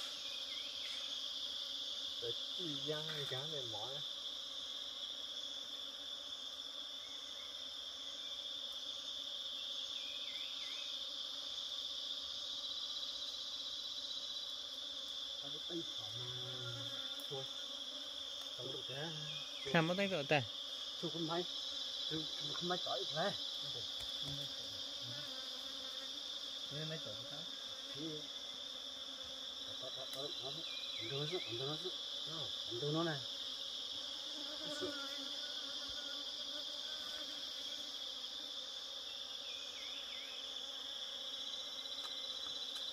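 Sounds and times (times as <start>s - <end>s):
shrill insect chorus: 0.0s - 42.9s.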